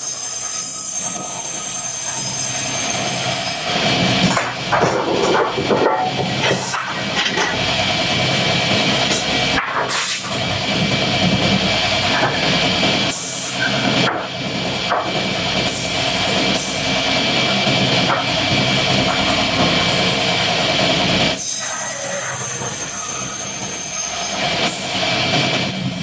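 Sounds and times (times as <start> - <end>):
wood-cutting machinery running: 0.0 - 26.0.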